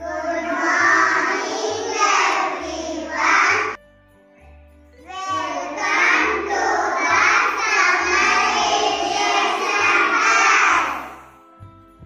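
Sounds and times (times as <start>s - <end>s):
children singing in unison: 0.0s - 3.8s, 5.1s - 11.3s.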